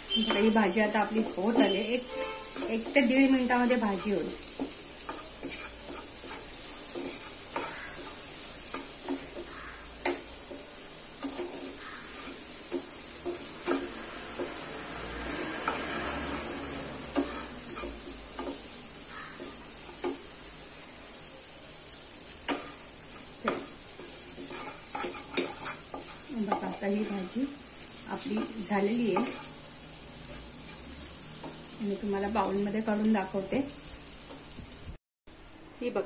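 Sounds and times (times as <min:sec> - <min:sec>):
spatula scraping and knocking pan: 0:00.0 - 0:20.4, 0:22.4 - 0:31.8
okra sizzling in a pan: 0:00.0 - 0:36.0.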